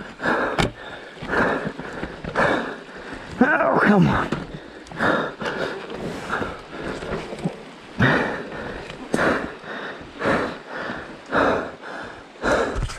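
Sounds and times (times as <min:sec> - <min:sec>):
person breathing hard: 0:00.0 - 0:03.4, 0:04.2 - 0:07.2, 0:08.0 - 0:12.9.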